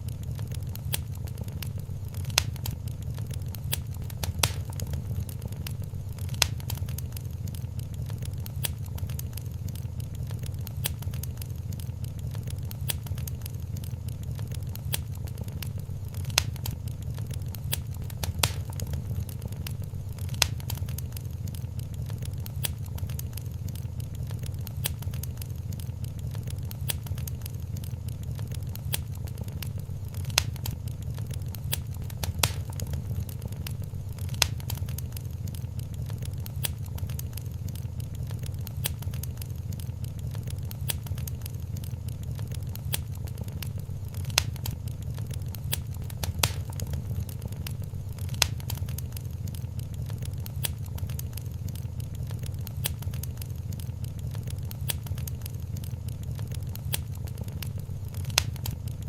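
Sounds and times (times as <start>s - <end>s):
fire crackling: 0.0s - 59.0s
flames rumbling: 0.0s - 59.0s
sharp pops of fire: 0.0s - 59.0s.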